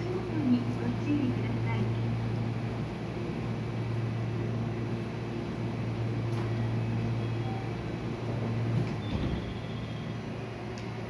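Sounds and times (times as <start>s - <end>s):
electric train humming: 0.0s - 11.0s
station platform noise: 0.0s - 11.0s.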